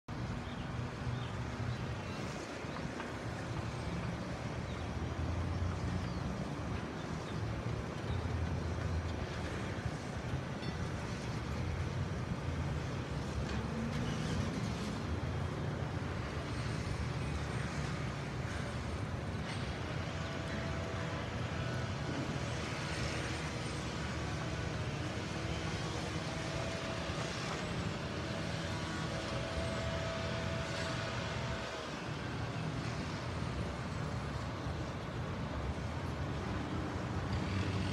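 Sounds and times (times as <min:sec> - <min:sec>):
road traffic rumble: 0:00.1 - 0:37.9.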